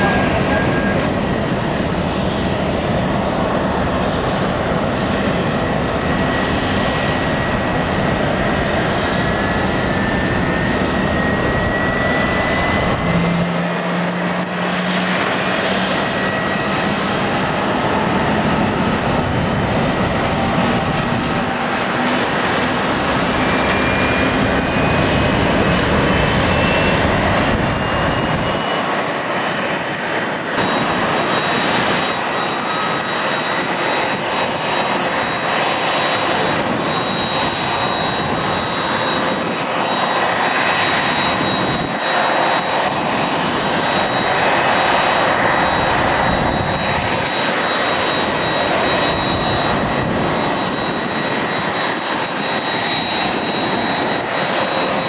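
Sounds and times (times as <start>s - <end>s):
jet engine high whine: 0.0s - 55.0s
jet engines rushing: 0.0s - 55.0s.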